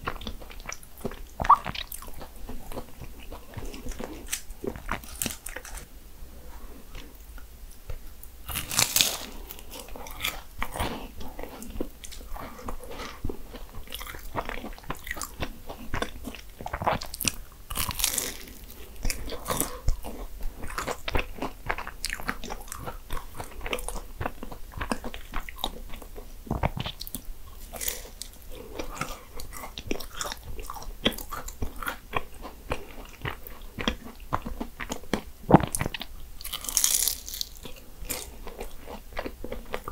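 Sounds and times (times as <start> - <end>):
chewing: 0.0 - 5.9, 6.9 - 39.9
pastry crunching: 0.0 - 5.9, 8.4 - 27.0, 27.6 - 39.9.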